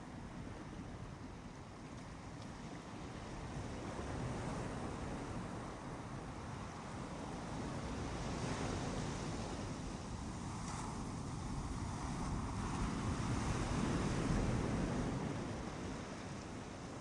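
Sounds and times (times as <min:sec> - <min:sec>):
ocean surf washing onto beach: 0:02.9 - 0:17.0.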